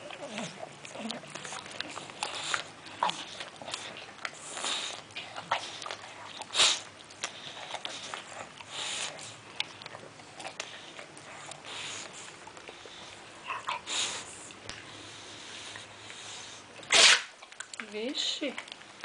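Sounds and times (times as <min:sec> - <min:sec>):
dog licking and snuffling: 0:00.0 - 0:19.0.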